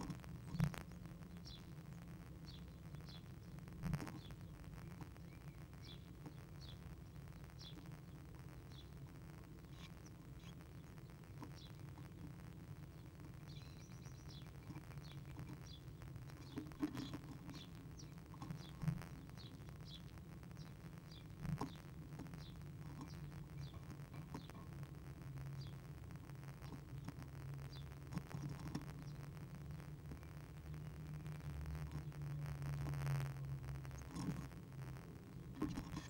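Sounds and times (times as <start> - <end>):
small bird chirping: 0.0 - 33.2, 33.8 - 34.6, 35.3 - 36.0
steady low hum: 0.0 - 36.0.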